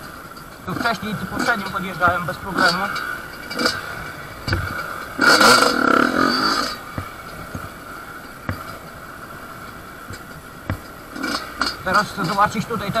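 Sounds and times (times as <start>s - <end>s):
dirt bike engine revving: 0.0s - 13.0s
sharp knocks from bike: 1.4s - 13.0s.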